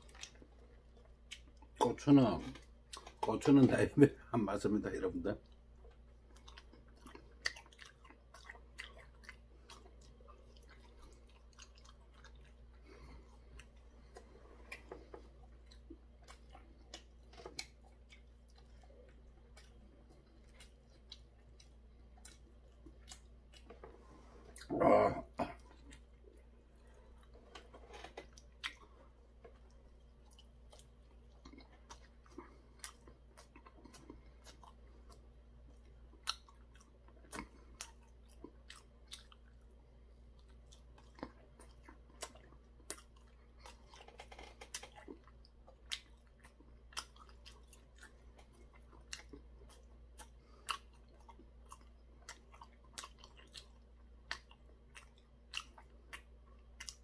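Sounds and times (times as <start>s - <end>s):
person chewing crunchy food: 0.0s - 3.8s, 5.4s - 57.0s.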